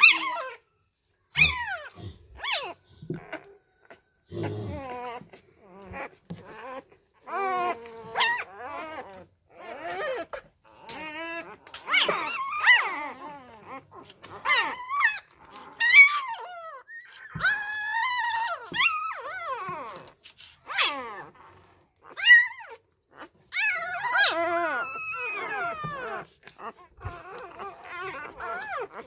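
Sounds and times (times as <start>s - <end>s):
puppies squealing and whining: 0.0s - 29.0s.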